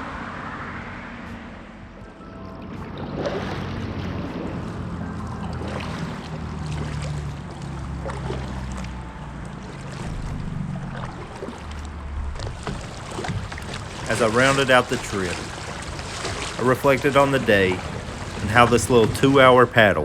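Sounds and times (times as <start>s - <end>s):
low steady rumble: 0.0s - 20.0s
water around a kayak: 0.0s - 20.0s
paddle splashes: 2.2s - 20.0s.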